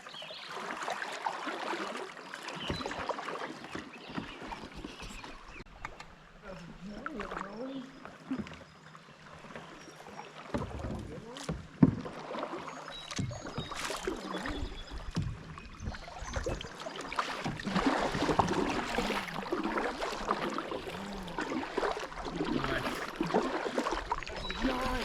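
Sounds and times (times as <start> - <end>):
paddle splashing water: 0.0 - 25.0.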